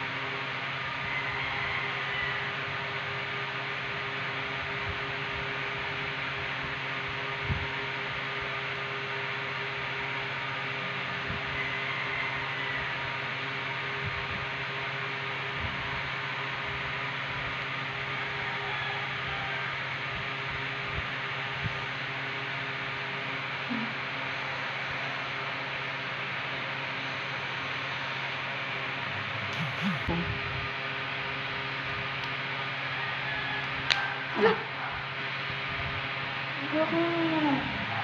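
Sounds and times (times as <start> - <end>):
low even hum: 0.0 - 38.0.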